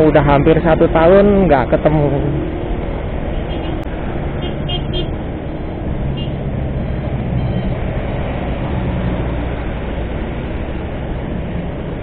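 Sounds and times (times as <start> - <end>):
scooter engine and road rumble: 0.0 - 12.0
trucks passing close: 0.0 - 12.0.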